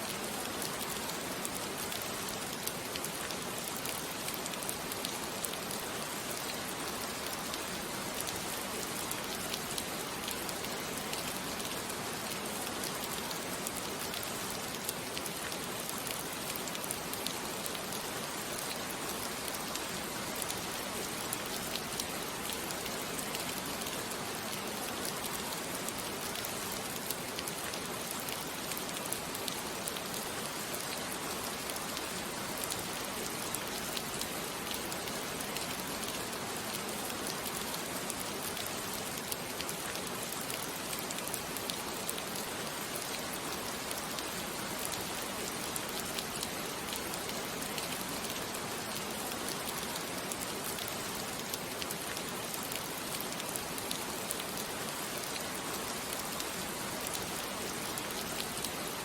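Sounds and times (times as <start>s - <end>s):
rain drops ticking: 0.0s - 59.0s
steady rainfall: 0.0s - 59.0s.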